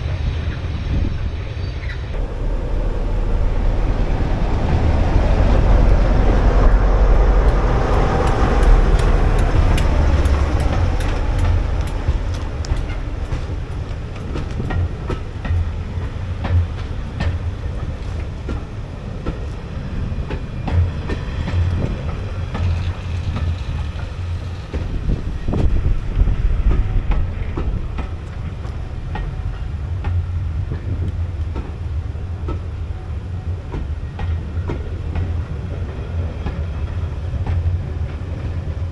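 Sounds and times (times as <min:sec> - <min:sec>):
deep train rumble: 0:00.0 - 0:38.9
train wheels clacking: 0:00.0 - 0:38.9.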